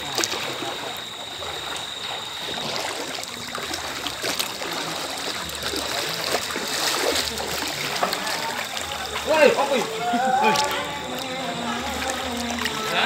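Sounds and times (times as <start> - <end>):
people wading through water: 0.0 - 13.0.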